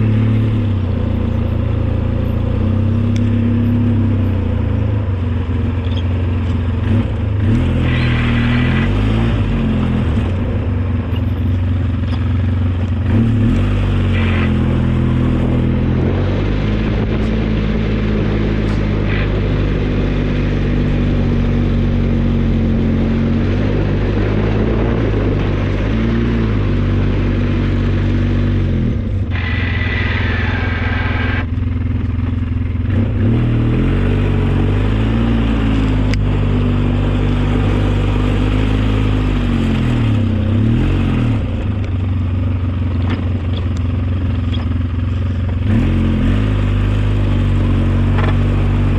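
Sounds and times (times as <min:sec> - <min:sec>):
snowplow engine under load: 0:00.0 - 0:48.9.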